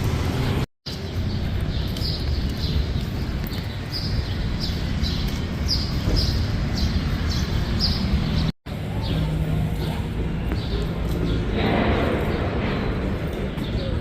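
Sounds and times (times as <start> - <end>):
city street rumble: 0.0 - 14.0.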